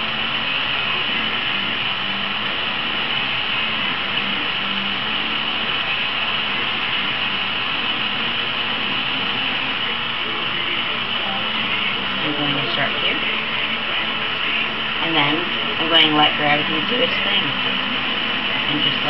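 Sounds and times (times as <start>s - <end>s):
gas torch flame hissing: 0.0s - 19.0s.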